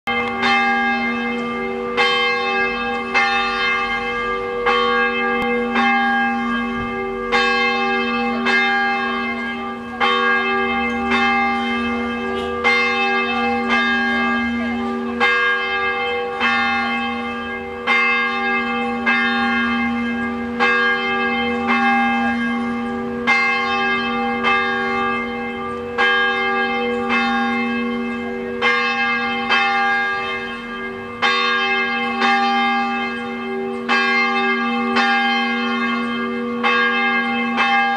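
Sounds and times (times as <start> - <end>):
church tower bell ringing: 0.1 - 37.9.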